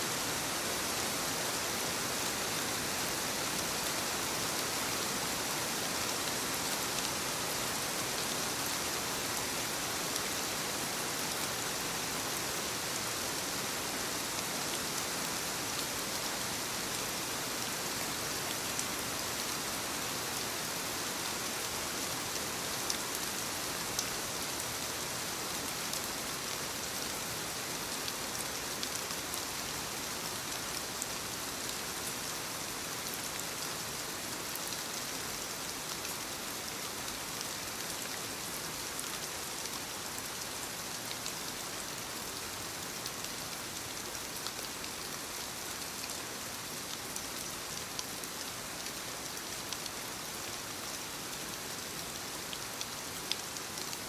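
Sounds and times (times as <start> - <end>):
soft rain on leaves: 0.0 - 54.0.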